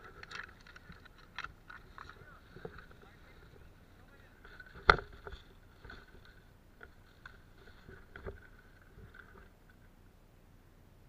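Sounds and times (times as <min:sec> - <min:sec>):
brushing through vegetation: 0:00.0 - 0:09.4.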